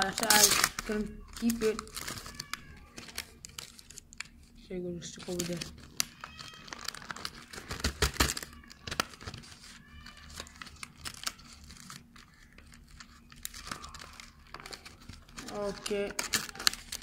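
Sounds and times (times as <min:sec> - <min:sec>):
cardboard box crinkling: 0:00.0 - 0:04.3, 0:05.0 - 0:17.0.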